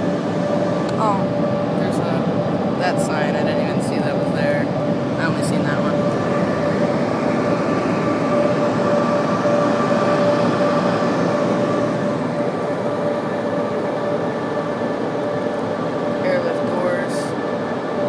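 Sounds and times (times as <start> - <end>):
dryer blowers rushing air: 0.0 - 18.0
steady whine: 0.0 - 18.0.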